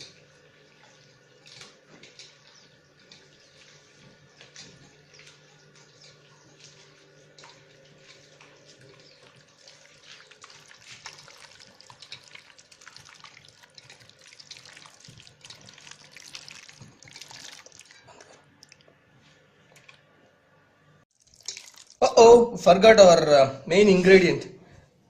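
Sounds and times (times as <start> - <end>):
marinade squelching: 0.0 - 20.2, 21.1 - 22.1.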